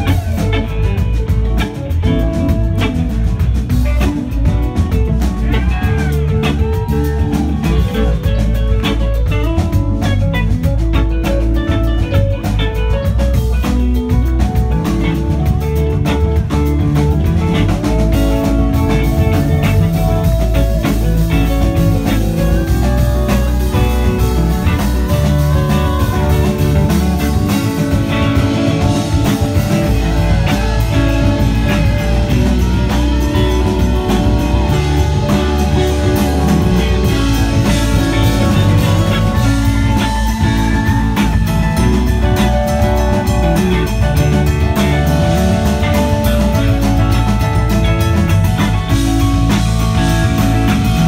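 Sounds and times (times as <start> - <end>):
drum kit: 0.0 - 51.0
guitar: 0.0 - 51.0
keyboard: 0.0 - 51.0.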